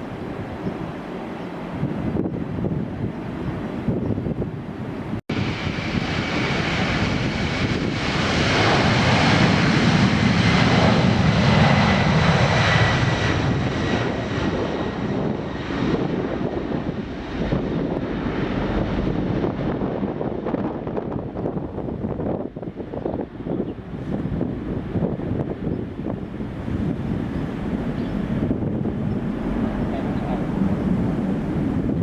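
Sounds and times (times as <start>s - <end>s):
high jet engine whine: 0.0s - 32.0s
jet engines roaring: 0.0s - 32.0s.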